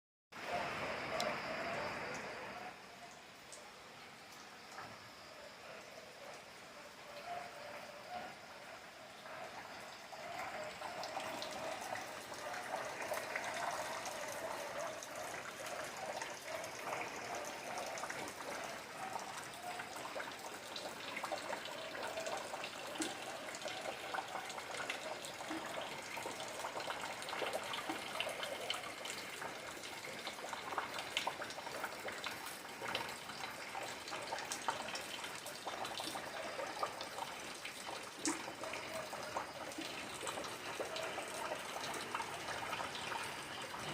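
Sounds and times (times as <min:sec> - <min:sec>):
rainwater trickling: 0:00.4 - 0:43.9
drops ticking and splashing: 0:08.6 - 0:43.9.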